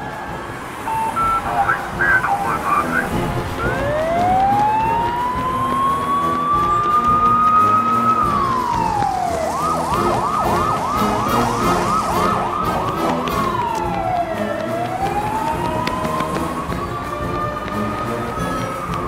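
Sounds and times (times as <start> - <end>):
police siren wailing and yelping: 0.0 - 19.0.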